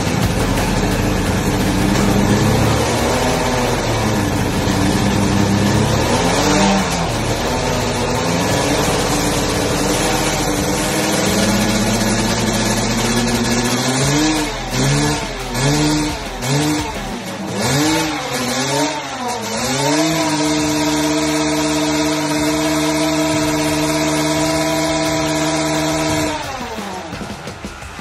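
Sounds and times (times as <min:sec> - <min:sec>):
motorcycle engine revving: 0:00.0 - 0:28.0
tyre spinning in burnout: 0:00.0 - 0:28.0.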